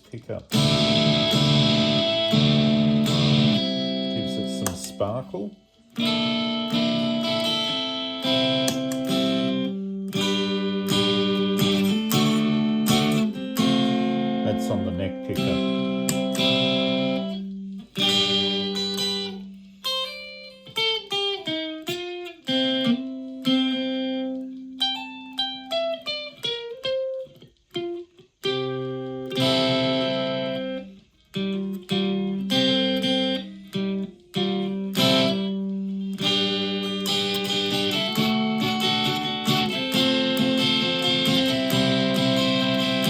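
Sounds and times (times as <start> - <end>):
electric ukulele playing: 0.0 - 43.0.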